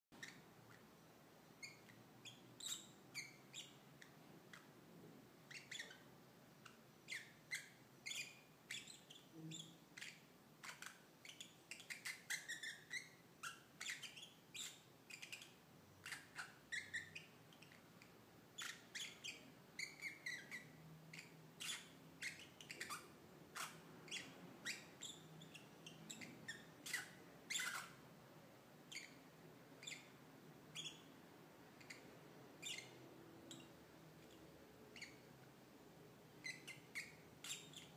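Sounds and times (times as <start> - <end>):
lovebirds squeaking and chirping: 0.2 - 4.8, 5.5 - 28.1, 28.8 - 35.3, 36.3 - 37.9.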